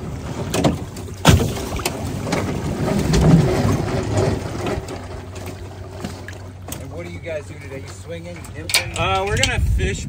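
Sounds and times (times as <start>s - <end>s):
boat hull scraping on trailer: 0.0s - 8.7s.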